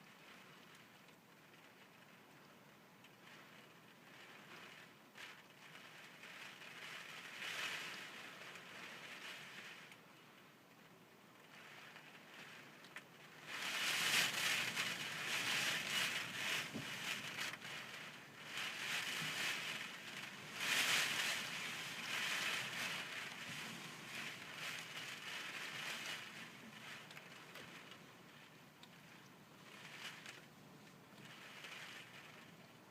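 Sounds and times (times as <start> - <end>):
rain: 0.0 - 32.9.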